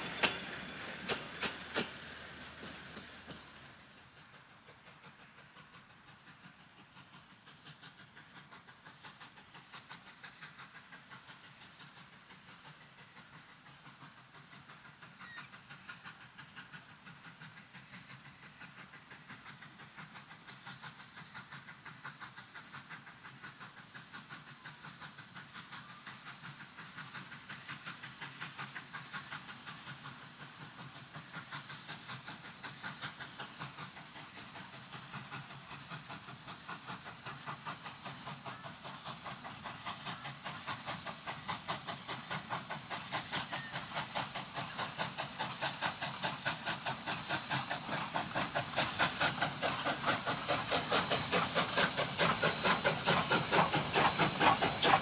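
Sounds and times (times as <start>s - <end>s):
steam locomotive exhaust beating: 0.0s - 55.0s
train wheels clicking over rail joints: 0.0s - 55.0s.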